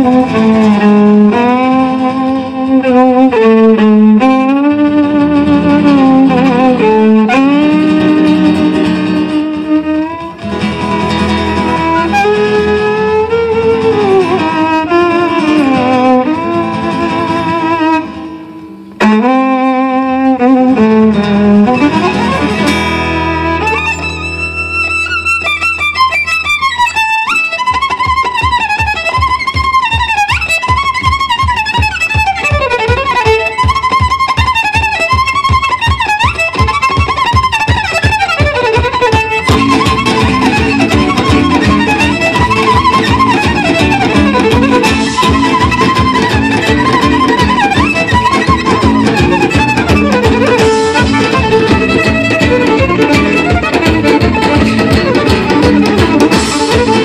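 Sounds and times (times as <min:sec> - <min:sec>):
guitar bass and hand drum: 0:00.0 - 0:57.0
violin melody with slides: 0:00.0 - 0:57.0.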